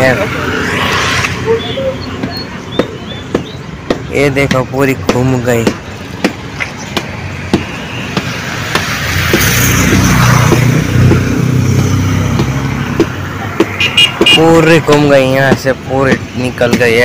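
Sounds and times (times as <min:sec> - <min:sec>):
vehicle engine passing: 0:00.0 - 0:04.3, 0:05.9 - 0:16.3.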